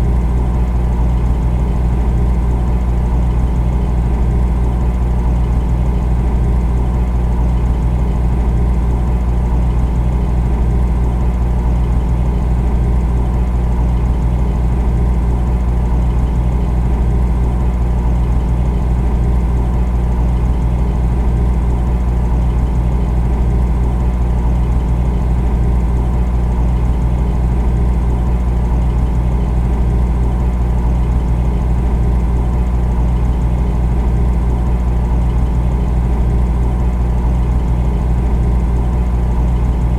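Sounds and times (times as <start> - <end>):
refrigerator humming: 0.0 - 39.9.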